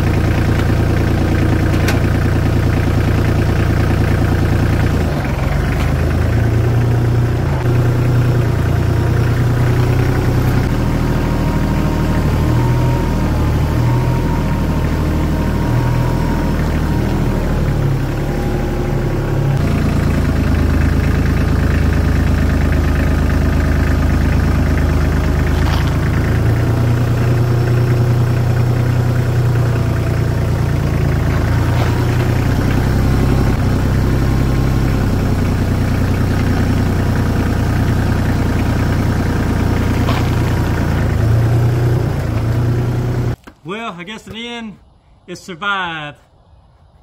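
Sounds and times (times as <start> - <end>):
tractor engine running: 0.0 - 44.6.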